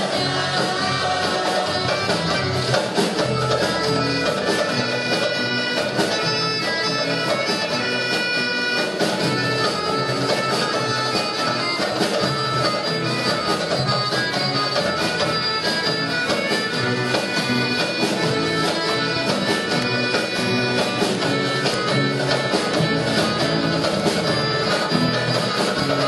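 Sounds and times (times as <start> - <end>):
live guitar music: 0.0 - 26.0.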